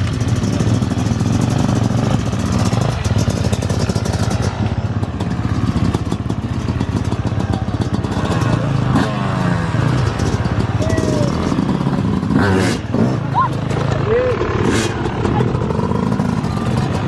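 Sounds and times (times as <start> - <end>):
motocross motorcycle engine running: 0.0 - 17.0.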